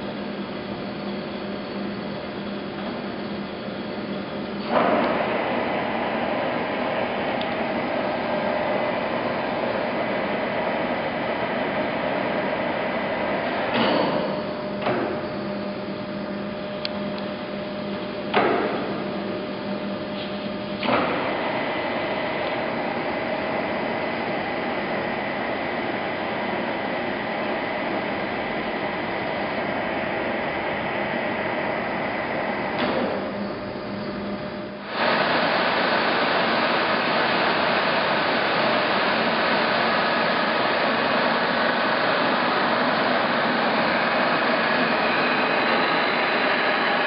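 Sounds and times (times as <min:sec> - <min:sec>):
lathe humming and whining: 0:00.0 - 0:47.0.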